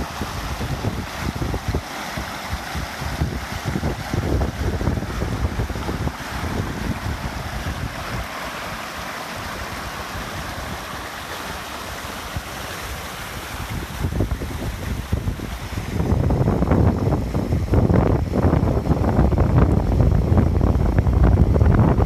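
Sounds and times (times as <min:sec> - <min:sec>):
stream rushing over rocks: 0:00.0 - 0:22.0
wind buffeting microphone: 0:00.0 - 0:22.0.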